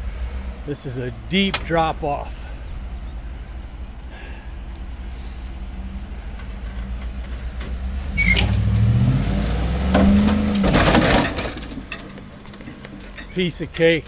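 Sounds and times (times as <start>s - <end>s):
pickup engine revving: 0.0s - 13.3s.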